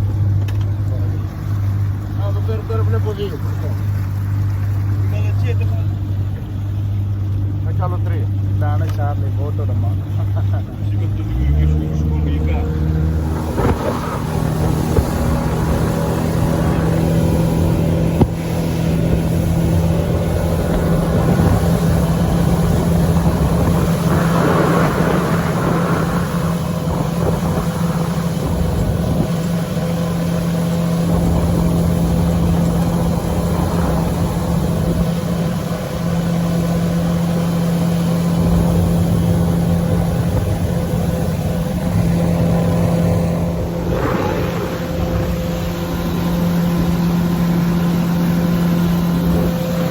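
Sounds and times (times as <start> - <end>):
boat motor humming: 0.0 - 49.9.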